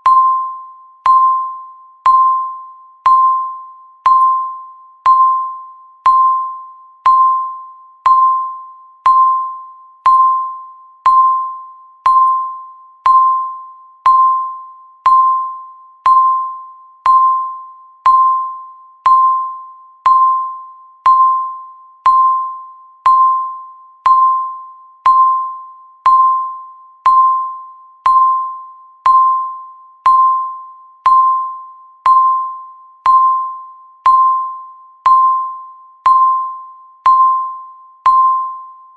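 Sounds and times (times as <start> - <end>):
timer electronic beeps: 0.0 - 38.9.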